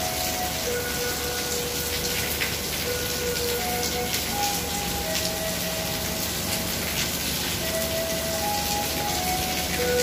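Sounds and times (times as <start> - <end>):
heavy rain hissing: 0.0 - 10.0
melody of held notes: 0.0 - 10.0.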